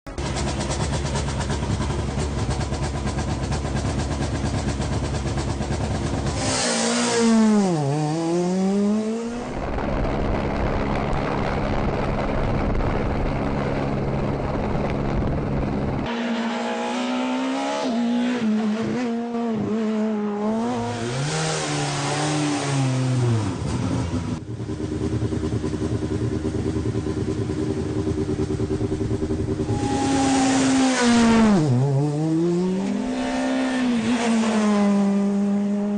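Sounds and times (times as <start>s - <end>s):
rally car engines revving: 0.1s - 35.9s.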